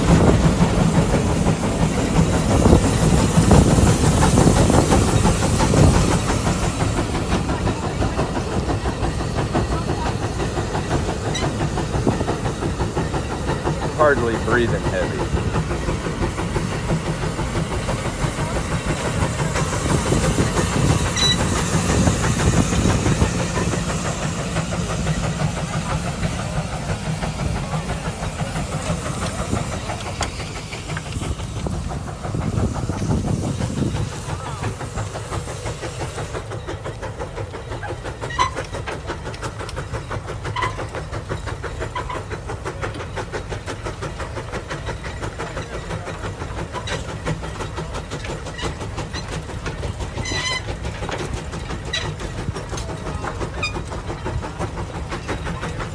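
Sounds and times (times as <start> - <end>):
steam engine exhaust beating: 0.0 - 55.9
steam hissing: 0.0 - 55.9.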